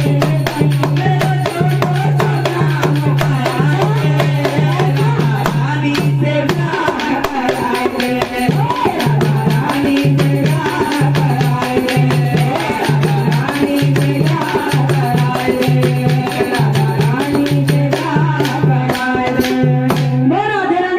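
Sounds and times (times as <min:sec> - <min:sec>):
rattling hand percussion: 0:00.0 - 0:20.2
devotional music with drum beat: 0:00.0 - 0:20.4.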